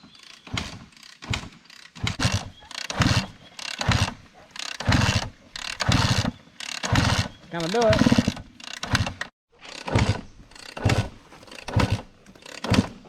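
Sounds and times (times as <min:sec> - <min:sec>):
dirt bike being kick-started: 0:00.0 - 0:13.0.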